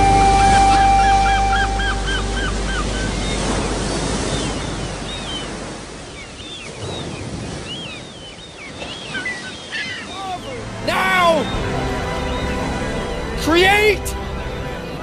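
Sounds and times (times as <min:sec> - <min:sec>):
wind and water rushing: 0:00.0 - 0:15.0.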